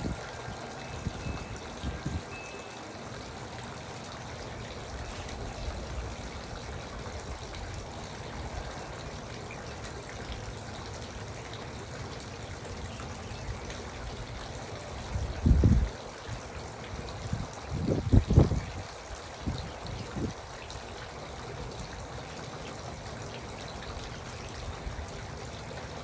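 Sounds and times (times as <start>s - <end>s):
fountain trickling and splashing: 0.0s - 26.0s.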